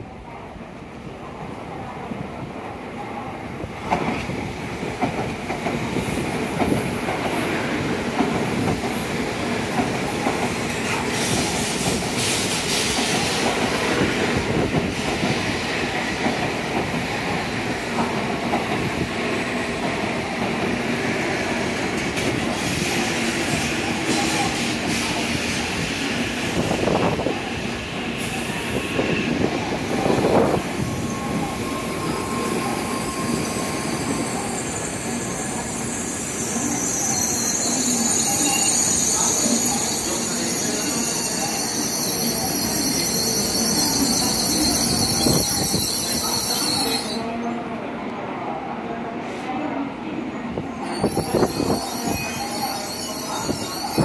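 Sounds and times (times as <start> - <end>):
train running noise: 3.2 - 47.6.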